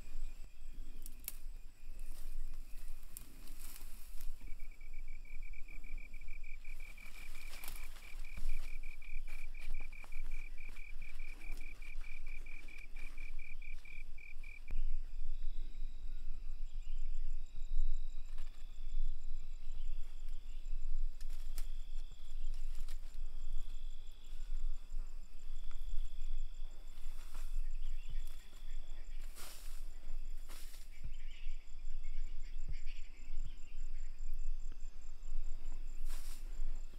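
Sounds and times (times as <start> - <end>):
insect chirping trill: 0.0 - 36.9
short high insect trills: 0.0 - 36.9.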